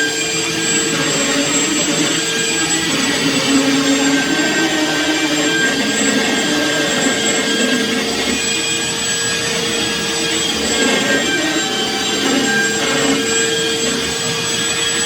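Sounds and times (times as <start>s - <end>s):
electric sander whining: 0.0s - 15.0s.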